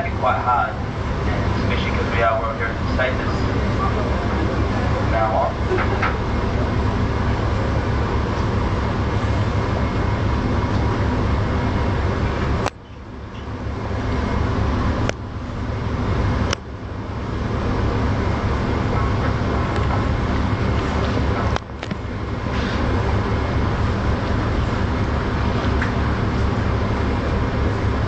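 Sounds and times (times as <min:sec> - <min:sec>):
ferry rumble: 0:00.0 - 0:28.0.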